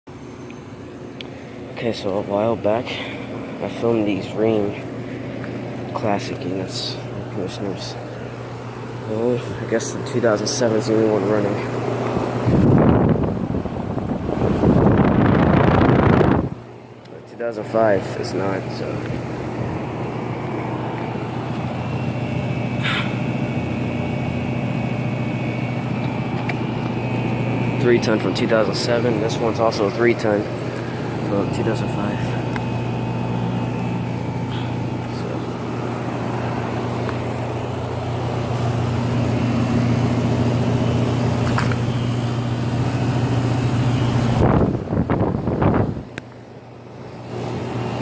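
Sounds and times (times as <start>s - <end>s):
compressor hum: 0.1s - 48.0s
condenser fan rushing: 0.1s - 48.0s.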